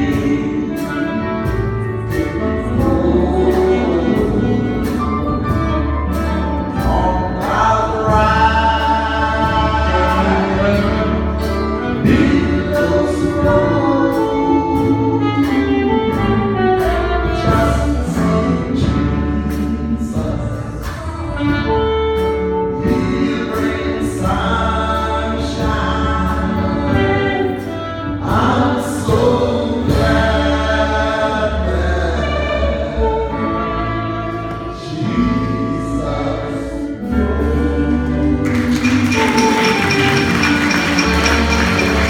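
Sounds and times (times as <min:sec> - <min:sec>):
drum kit beat: 0:00.0 - 0:30.6, 0:38.2 - 0:42.0
keyboard: 0:00.0 - 0:42.0.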